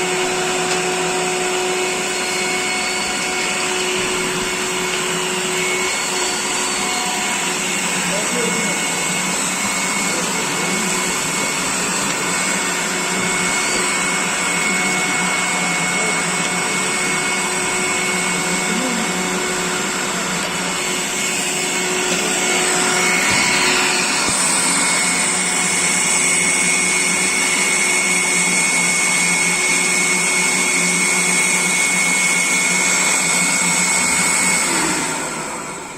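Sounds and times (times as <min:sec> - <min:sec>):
vacuum cleaner motor whine: 0:00.0 - 0:35.9.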